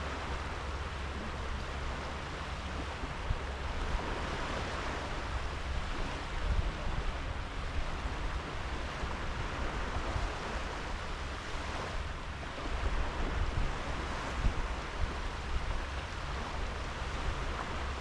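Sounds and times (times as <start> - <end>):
waves washing onto sandy beach: 0.0 - 18.0
wind rumble on microphone: 0.0 - 18.0.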